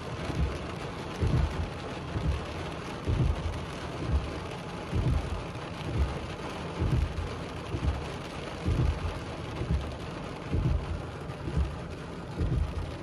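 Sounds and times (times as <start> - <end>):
rain on a car windshield: 0.0 - 13.0
windshield wipers thumping: 0.0 - 13.0.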